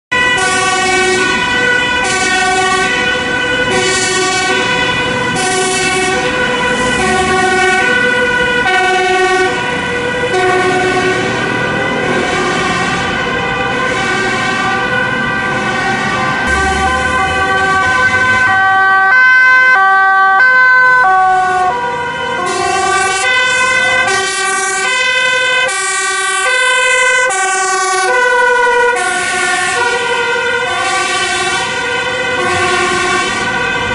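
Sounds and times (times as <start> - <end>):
two-tone emergency sirens: 0.1 - 33.9.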